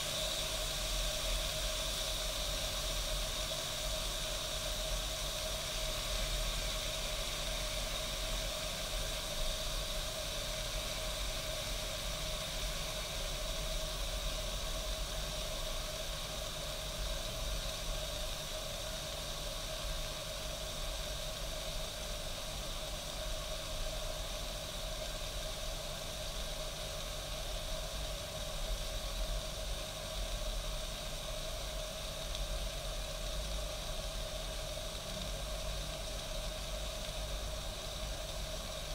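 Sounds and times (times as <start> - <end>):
coffee machine hissing steam: 0.0 - 38.9.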